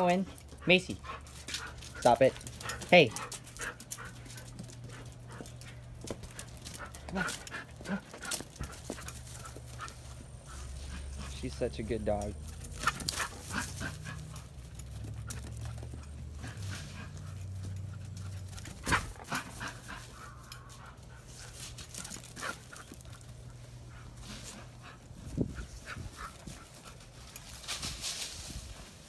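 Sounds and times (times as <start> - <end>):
dog panting: 0.0 - 27.4.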